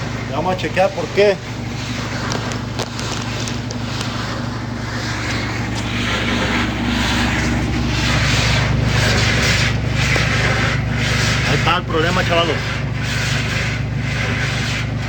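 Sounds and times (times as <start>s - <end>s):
tub scraping against metal: 0.0s - 15.0s
washing machine motor humming: 0.0s - 15.0s.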